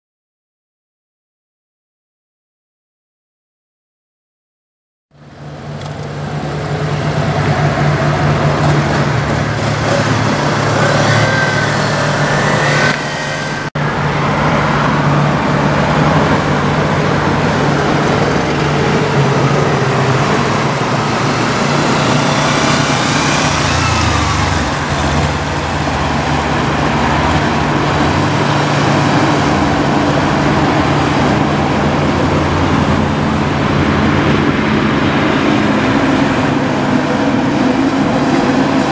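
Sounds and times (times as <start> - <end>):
road noise: 5.1 - 38.9
vehicle engine drone: 5.1 - 38.9.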